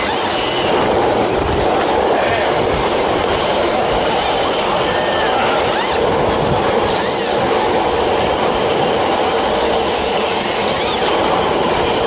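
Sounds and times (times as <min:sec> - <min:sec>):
electric motor whines: 0:00.0 - 0:12.0.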